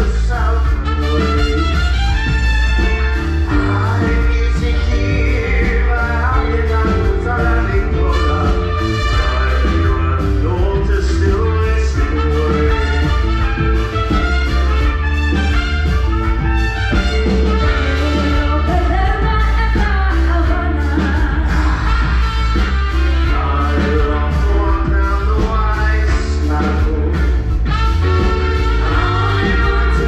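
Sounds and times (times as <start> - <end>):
band music with singer: 0.0 - 30.0
heavy bass line: 0.0 - 30.0.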